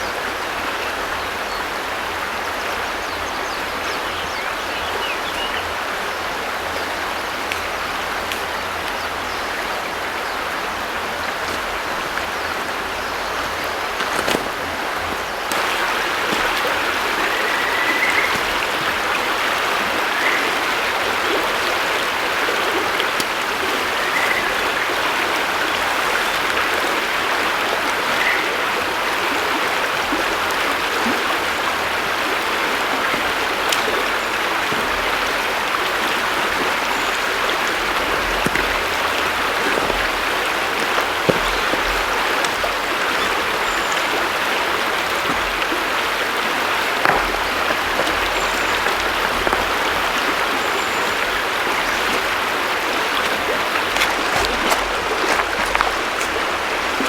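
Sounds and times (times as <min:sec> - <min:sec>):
river water over stones: 0:00.0 - 0:57.0.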